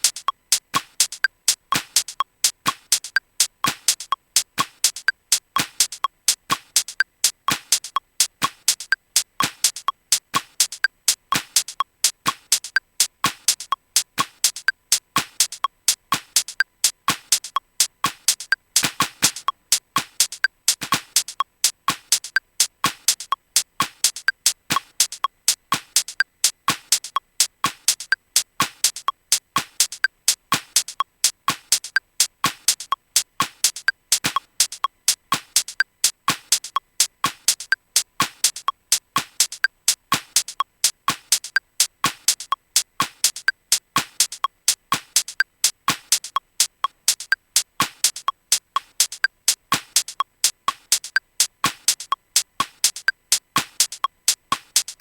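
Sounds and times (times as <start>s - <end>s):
clicky drum machine hits: 0.0s - 55.0s.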